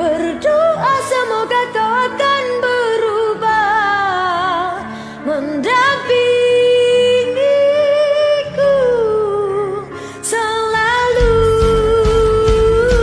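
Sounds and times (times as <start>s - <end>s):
ballad backing track: 0.0s - 13.0s
person singing with vibrato: 0.0s - 13.0s.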